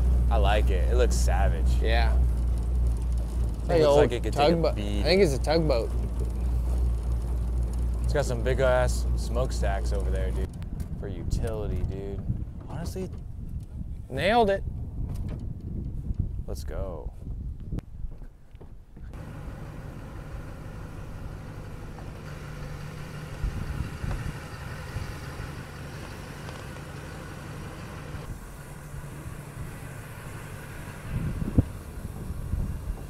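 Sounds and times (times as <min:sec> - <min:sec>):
engine running steadily: 0:00.0 - 0:14.3, 0:19.0 - 0:33.0.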